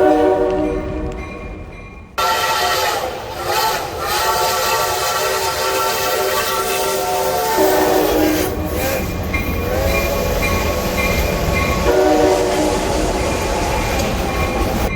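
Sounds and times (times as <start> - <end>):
train horn blasts: 0.0 - 1.2, 2.2 - 14.8
low rumble of running train: 0.0 - 14.9.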